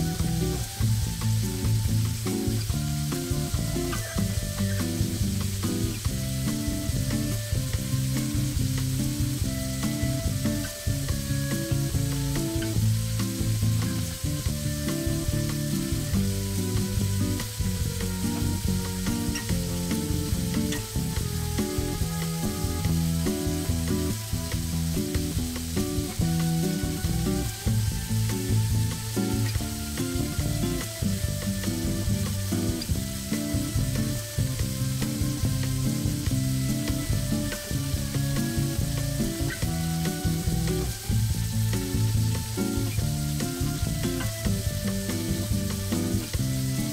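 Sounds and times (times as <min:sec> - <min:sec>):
steak sizzling in a frying pan: 0:00.0 - 0:46.9.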